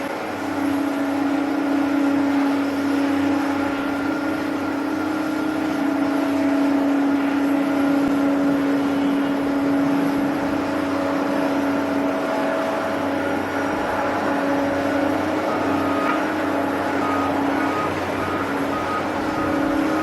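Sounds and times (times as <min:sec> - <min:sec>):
jet engines humming: 0:00.0 - 0:20.0.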